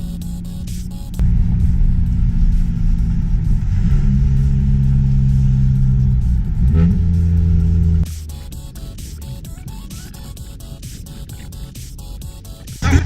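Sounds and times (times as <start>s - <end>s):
car engine revving: 0.0s - 11.9s, 12.8s - 13.0s.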